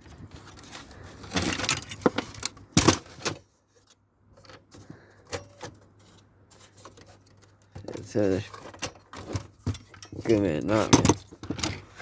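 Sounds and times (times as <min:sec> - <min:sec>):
small metal parts clattering: 0:00.0 - 0:03.4, 0:04.4 - 0:12.0.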